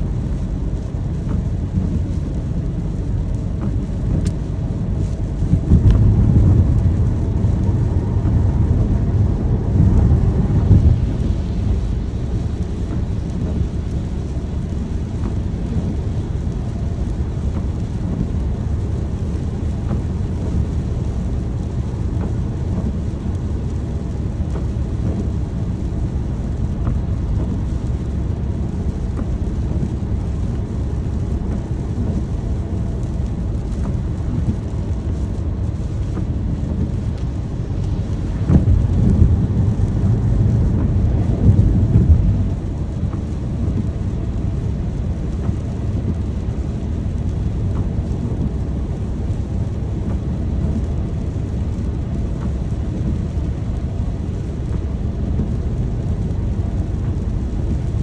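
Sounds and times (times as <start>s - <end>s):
low rumble: 0.0s - 58.0s
rainstorm: 0.0s - 58.0s.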